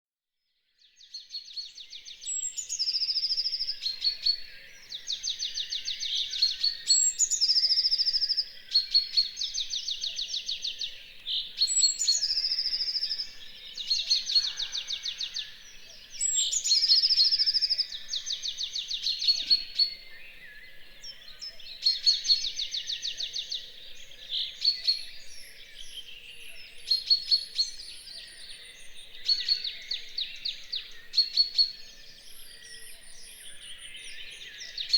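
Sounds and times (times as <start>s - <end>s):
faint calls of other birds: 0.6s - 34.9s.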